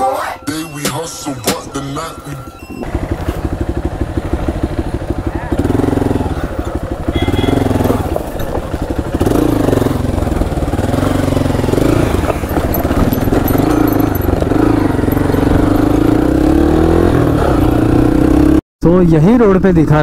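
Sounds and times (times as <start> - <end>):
motorcycle engine revving: 1.4 - 18.6.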